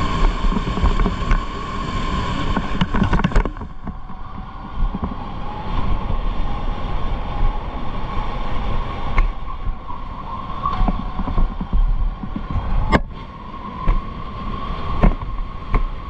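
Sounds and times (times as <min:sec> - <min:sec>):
low rumble: 0:00.0 - 0:16.0
wind noise: 0:00.0 - 0:16.0.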